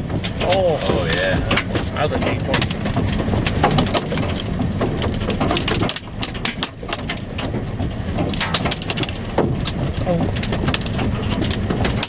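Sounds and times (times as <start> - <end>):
precipitation tapping on vehicle: 0.0 - 12.0
steady low rumble: 0.0 - 12.0.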